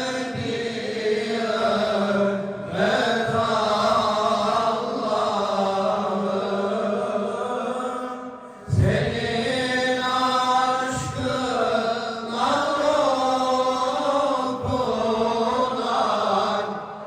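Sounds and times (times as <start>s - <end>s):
voices chanting a devotional hymn: 0.0s - 17.0s.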